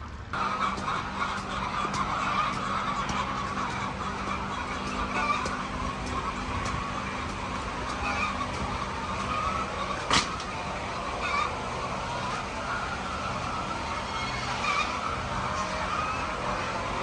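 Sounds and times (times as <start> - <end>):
low machine hum: 0.0 - 17.0
chickens calling: 0.4 - 17.0.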